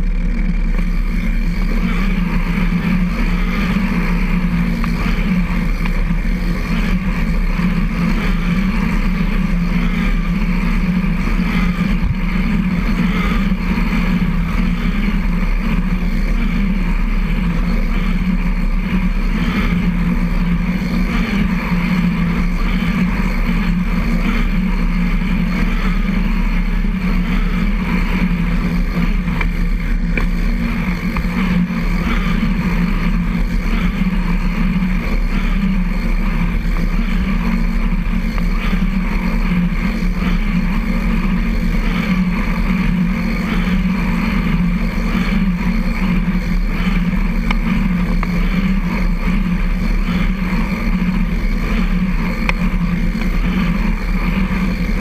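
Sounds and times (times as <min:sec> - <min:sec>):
trike tyres rolling on concrete: 0:00.0 - 0:55.0.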